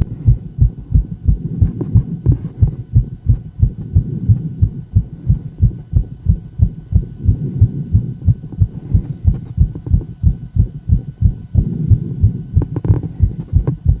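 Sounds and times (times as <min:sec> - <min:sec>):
heart beating fast: 0:00.0 - 0:14.0.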